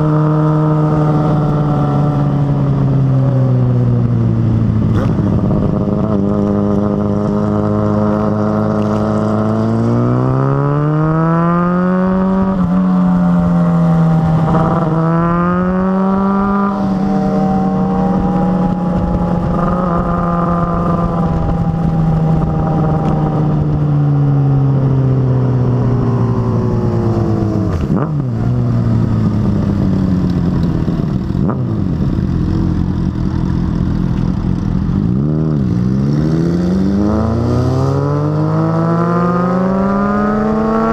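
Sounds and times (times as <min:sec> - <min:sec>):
motorcycle engine revving: 0:00.0 - 0:40.9
other motorcycle engines: 0:00.0 - 0:40.9.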